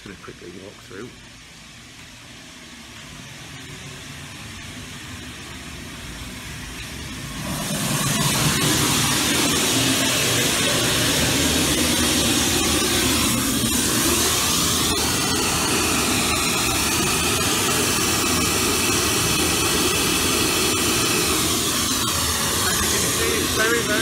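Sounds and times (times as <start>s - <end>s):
loud hissing test noise: 0.0s - 24.0s.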